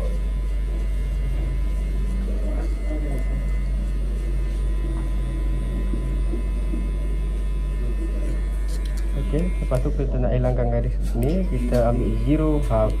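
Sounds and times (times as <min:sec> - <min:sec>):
electric hair clipper buzzing: 0:00.0 - 0:13.0.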